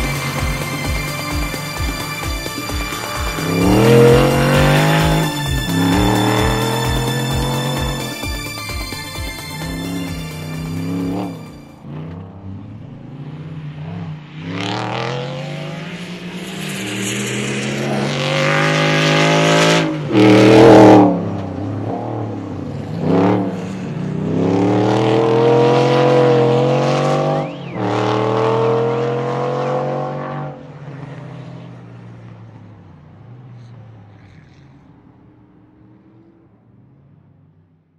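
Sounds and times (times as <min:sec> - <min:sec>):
rally car engine revving: 0:00.0 - 0:36.4.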